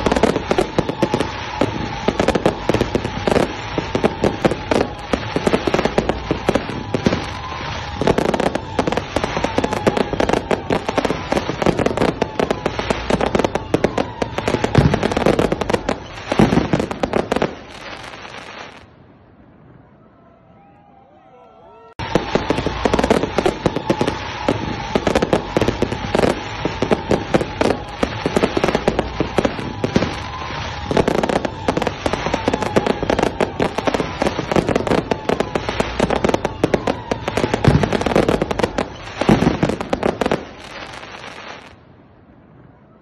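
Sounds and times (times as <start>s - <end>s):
fireworks crackling and banging: 0.0s - 19.8s, 22.0s - 42.9s.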